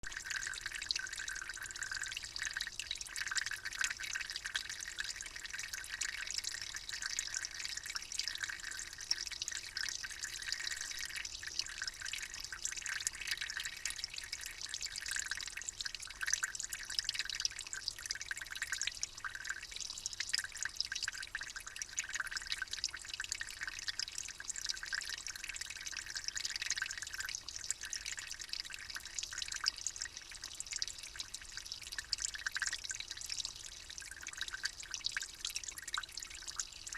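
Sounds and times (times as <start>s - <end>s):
water trickling and dripping: 0.0s - 36.9s.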